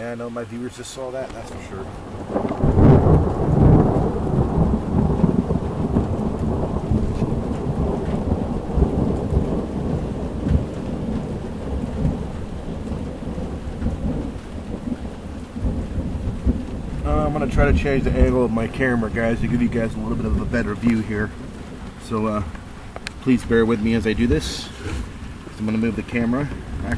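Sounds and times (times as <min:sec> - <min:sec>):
heavy rain: 0:00.0 - 0:26.9
thunder rumbling: 0:00.0 - 0:26.9.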